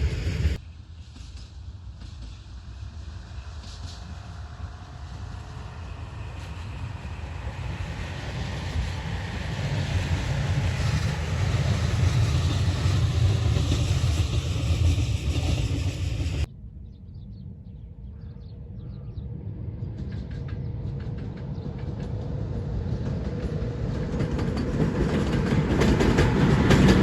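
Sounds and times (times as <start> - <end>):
wheels on rails: 0.0 - 16.5, 20.0 - 27.0
train rumble: 0.0 - 17.0, 18.1 - 27.0.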